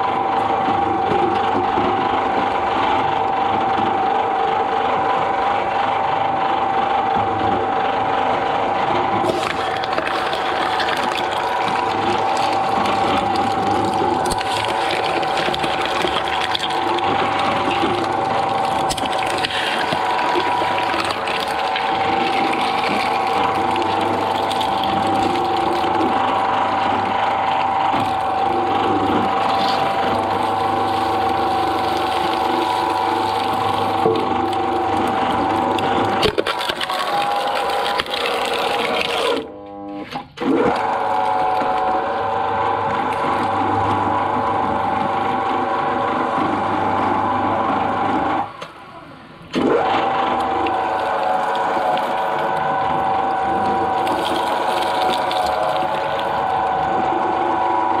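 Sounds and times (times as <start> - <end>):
shredder whining and humming: 0.0 - 58.0.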